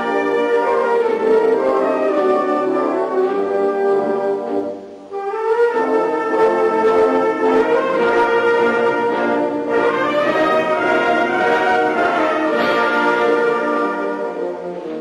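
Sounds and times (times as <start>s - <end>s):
orchestral music with brass: 0.0s - 15.0s.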